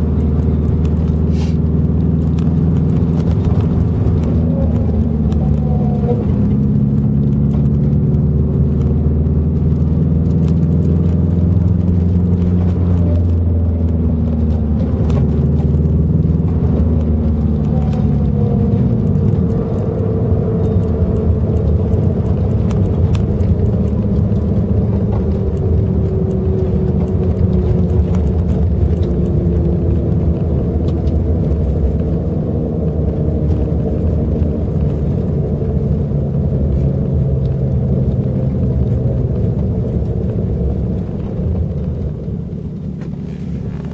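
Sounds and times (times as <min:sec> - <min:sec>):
car engine: 0:00.0 - 0:43.9
road noise: 0:00.0 - 0:43.9.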